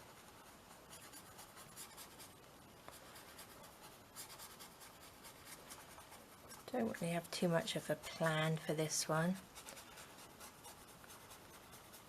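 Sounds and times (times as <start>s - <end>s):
brush strokes on canvas: 0.0s - 12.0s.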